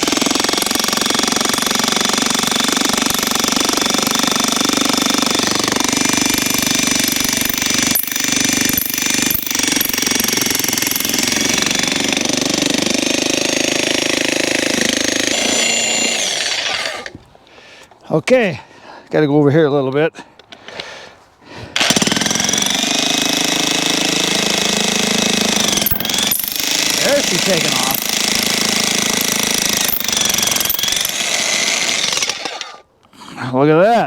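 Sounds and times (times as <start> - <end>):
electric jackhammer splitting log: 0.0 - 17.2, 21.8 - 32.9.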